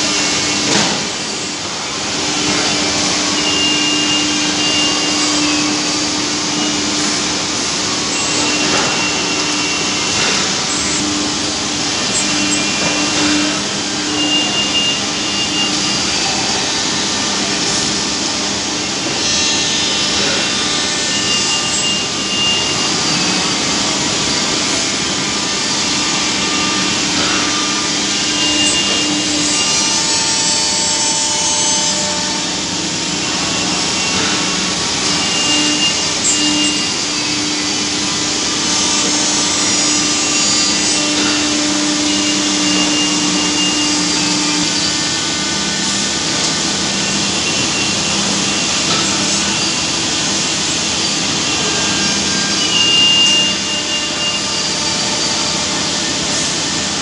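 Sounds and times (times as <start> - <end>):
router spindle cutting board: 0.0 - 57.0.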